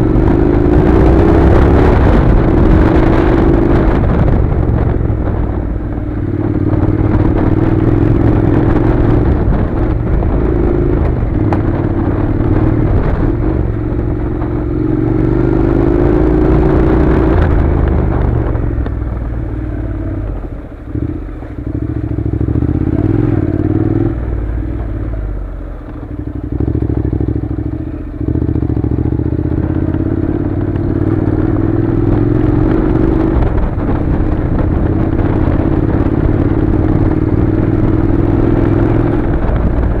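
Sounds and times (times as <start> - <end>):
motorcycle engine: 0.0 - 40.0.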